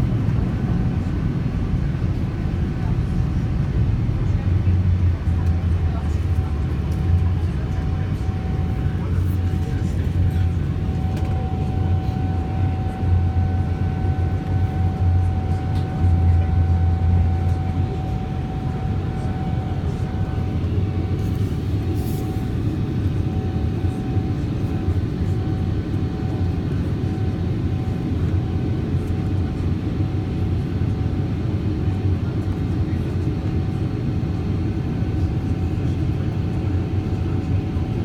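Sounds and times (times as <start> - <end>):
aircraft engines rumbling in cabin: 0.0 - 38.0.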